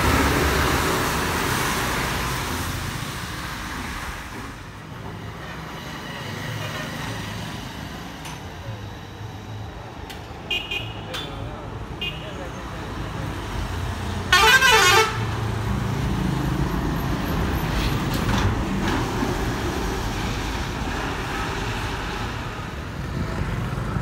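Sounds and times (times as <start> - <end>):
bus passing close: 0.0 - 10.5, 11.2 - 24.0
road traffic: 0.0 - 24.0.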